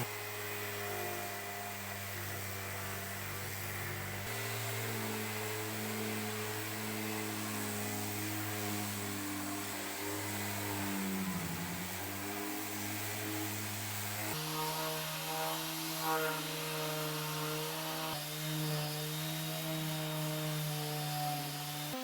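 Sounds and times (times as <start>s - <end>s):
power tool cutting wood: 0.0s - 22.0s.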